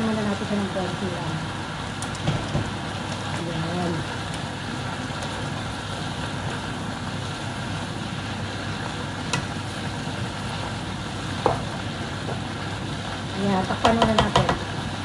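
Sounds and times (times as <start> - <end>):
kitchen exhaust fan drone: 0.0 - 15.0
vegetables frying in a pan: 0.0 - 15.0.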